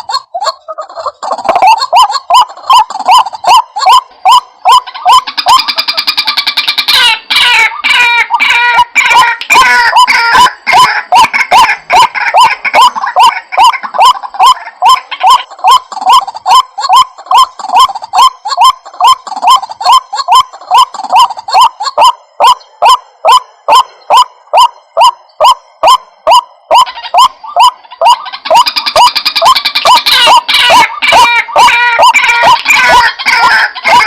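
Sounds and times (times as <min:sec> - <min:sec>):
busier layer of bird calls: 0:00.0 - 0:34.0
harsh bird calls: 0:00.0 - 0:34.0.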